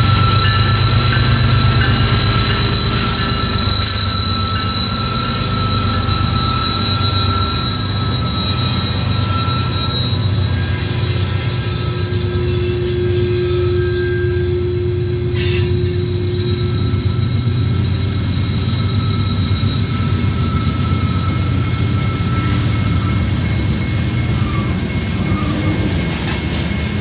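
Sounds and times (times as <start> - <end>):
high-pitched wheel squeal: 0.0 - 26.6
diesel locomotive engines: 0.0 - 27.0.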